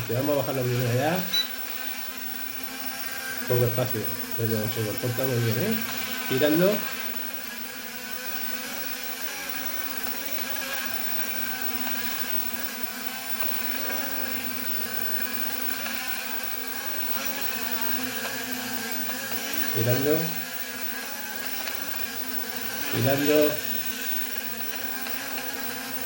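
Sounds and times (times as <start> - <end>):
drone motors whirring: 0.0 - 26.0.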